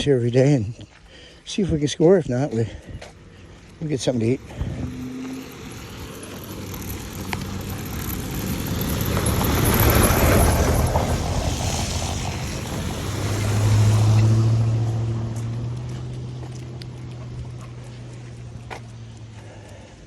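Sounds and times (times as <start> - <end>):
vehicles driving past: 0.0 - 20.0
low engine drone: 2.4 - 20.0.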